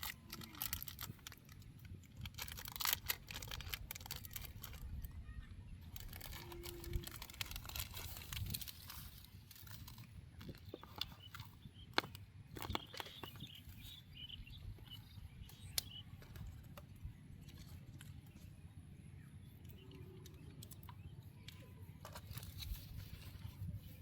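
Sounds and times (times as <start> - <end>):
small bird chirps: 3.6 - 23.4.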